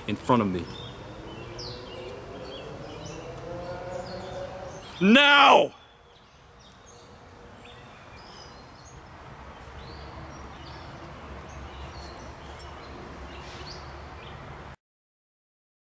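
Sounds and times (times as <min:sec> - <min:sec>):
bird chirps: 0:00.0 - 0:14.4.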